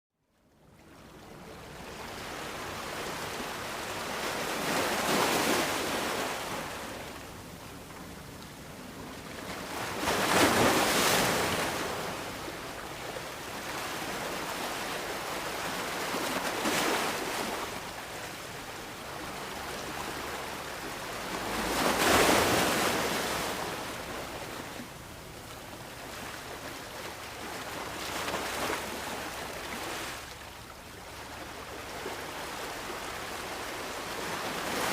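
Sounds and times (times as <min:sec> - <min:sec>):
sea waves washing on beach: 0:00.8 - 0:34.9.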